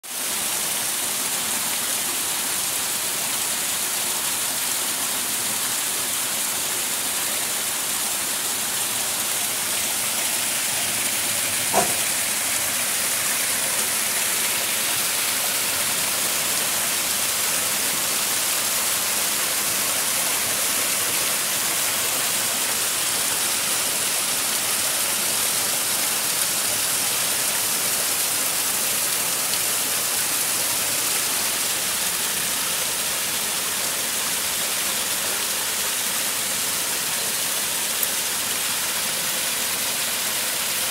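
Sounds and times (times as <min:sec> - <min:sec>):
water rushing over cascades: 0:00.0 - 0:40.9.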